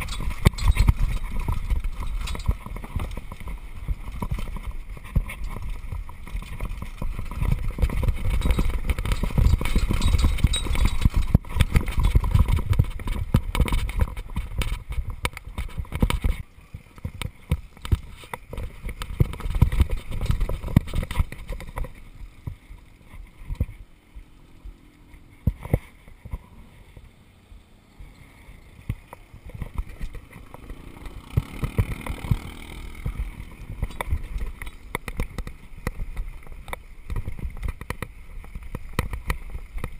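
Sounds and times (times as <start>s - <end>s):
mountain bike rattling over gravel: 0.0s - 27.2s, 27.8s - 39.9s.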